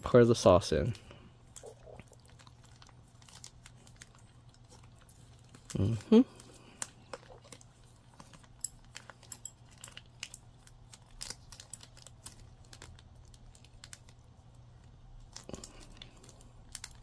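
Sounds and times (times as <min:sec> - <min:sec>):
plastic packet crinkling: 0:00.8 - 0:17.0.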